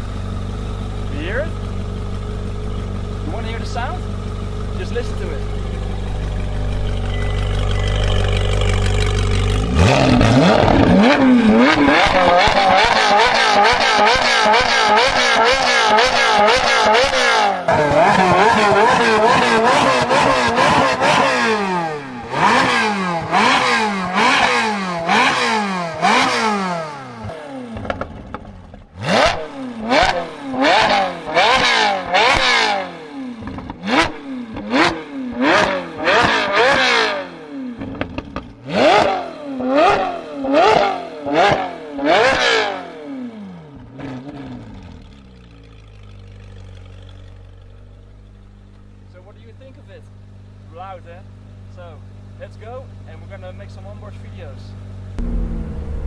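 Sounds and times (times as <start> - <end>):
car engine idling: 0.0 - 37.0, 37.6 - 42.2, 43.0 - 56.0
car engine revving: 0.0 - 56.0.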